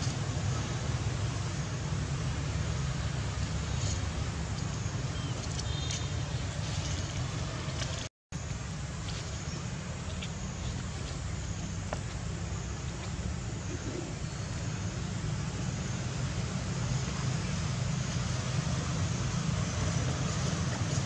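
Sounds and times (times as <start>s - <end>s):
low rumble and hiss: 0.0s - 21.0s.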